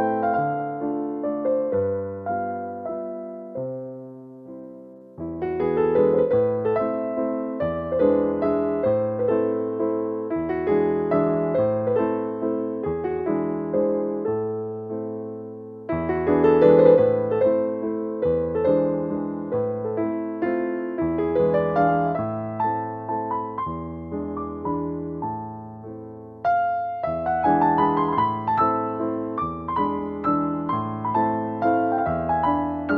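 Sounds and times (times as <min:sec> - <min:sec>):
gentle solo piano: 0:00.0 - 0:32.9.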